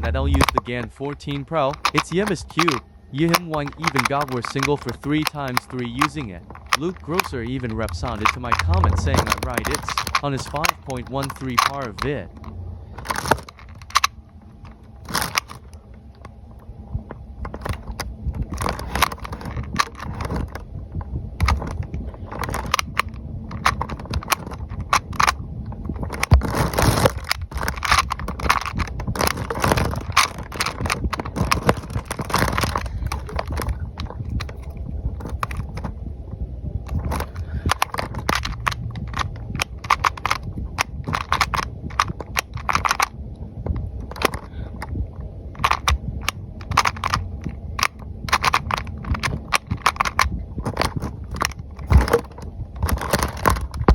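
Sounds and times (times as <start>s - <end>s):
puzzle dials clicking: 0.0s - 16.4s, 17.5s - 20.6s, 21.4s - 35.9s, 36.9s - 43.2s, 43.8s - 44.9s, 45.5s - 53.9s.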